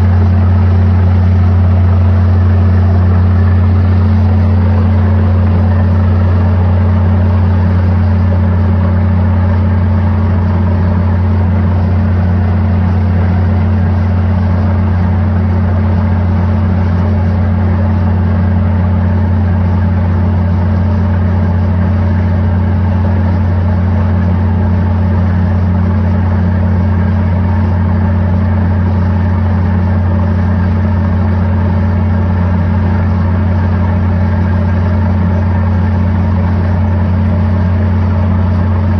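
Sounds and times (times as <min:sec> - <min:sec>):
drilling rig engine drone: 0:00.0 - 0:38.9.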